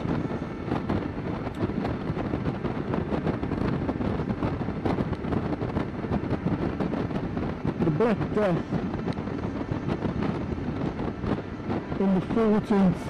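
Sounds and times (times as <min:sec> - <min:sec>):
road noise: 0:00.0 - 0:13.0
wind buffeting a microphone: 0:00.0 - 0:13.0.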